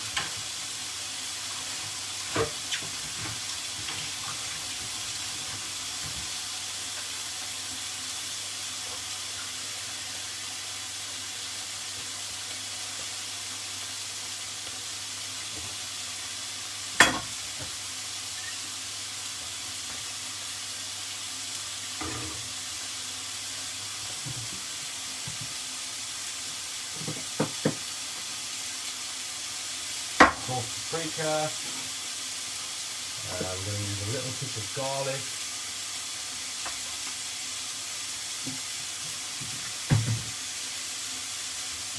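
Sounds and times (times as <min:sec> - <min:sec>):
chicken sizzling in oil: 0:00.0 - 0:41.9.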